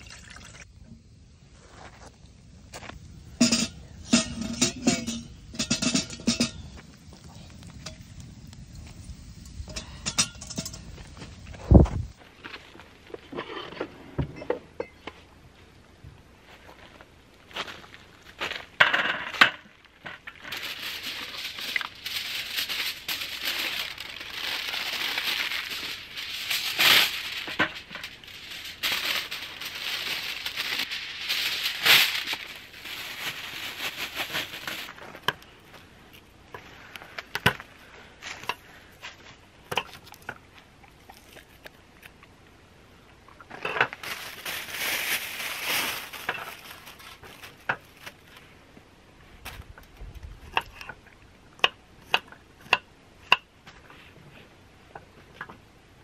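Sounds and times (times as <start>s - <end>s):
rustling and crinkling: 1.5s - 9.1s, 9.7s - 15.7s, 16.4s - 42.3s, 43.4s - 51.2s.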